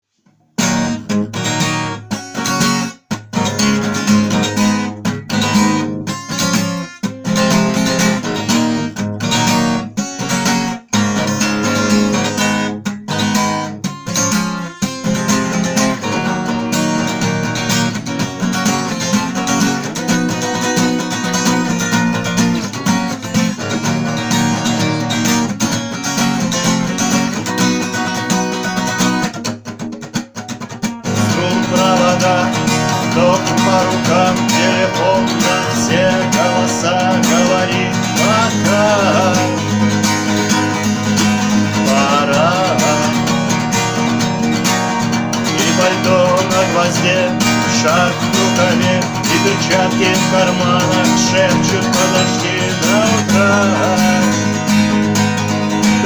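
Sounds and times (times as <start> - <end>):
acoustic guitar strumming: 0.2 - 56.0.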